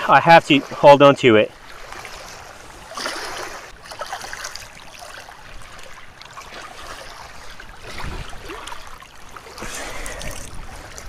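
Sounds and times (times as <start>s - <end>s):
shallow water sloshing and trickling: 0.0s - 11.0s
small water splashes: 0.0s - 11.0s.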